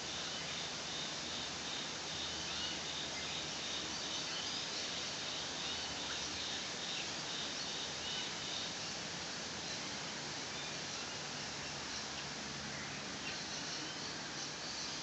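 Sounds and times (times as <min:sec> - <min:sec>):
forest background hiss: 0:00.0 - 0:15.0.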